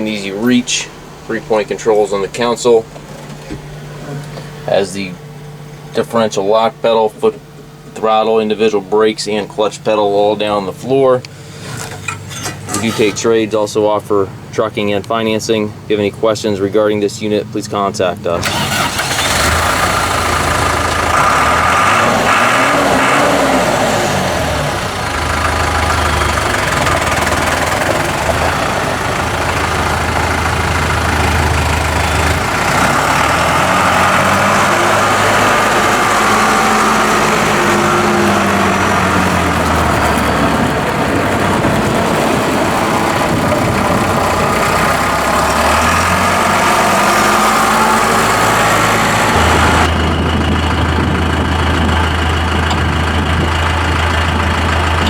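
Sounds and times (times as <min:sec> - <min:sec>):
diesel tractor engine idling: 0:00.0 - 0:55.0.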